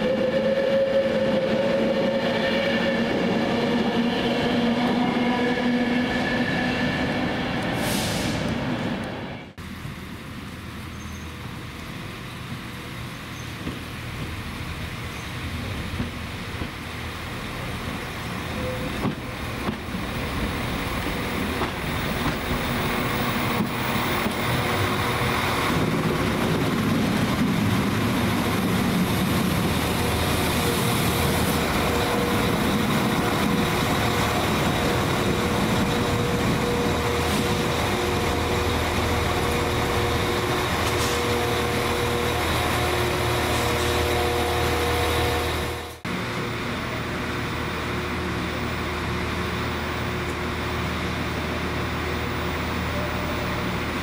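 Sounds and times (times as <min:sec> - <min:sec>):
train running: 0:00.0 - 0:54.0.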